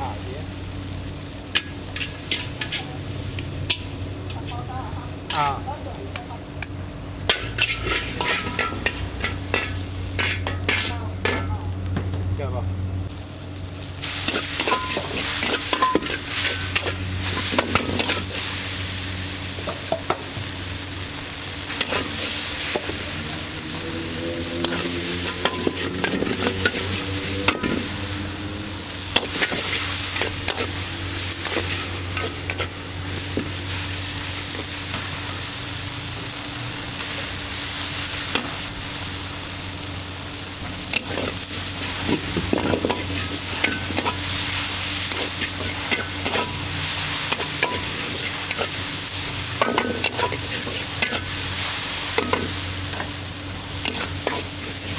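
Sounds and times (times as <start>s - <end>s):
food sizzling in a wok: 0.0s - 54.9s
metal spatula scraping wok: 1.1s - 5.6s, 7.2s - 11.6s, 14.0s - 20.3s, 21.1s - 35.9s, 40.4s - 54.9s.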